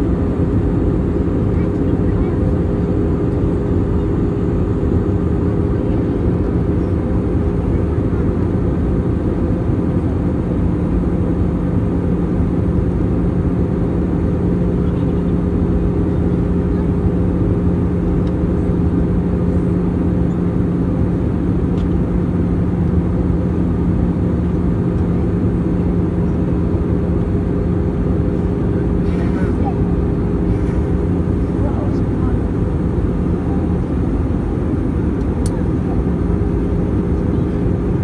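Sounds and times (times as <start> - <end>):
aircraft engines droning: 0.0 - 38.0
constant low hum: 0.0 - 38.0.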